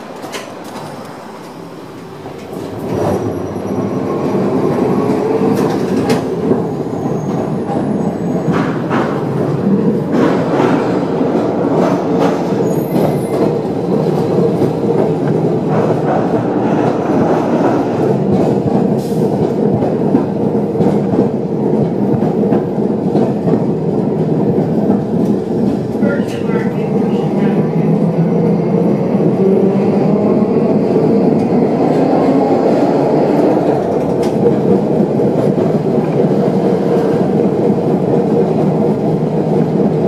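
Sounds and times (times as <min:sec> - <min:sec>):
streetcar rolling on rails: 0:00.0 - 0:40.0.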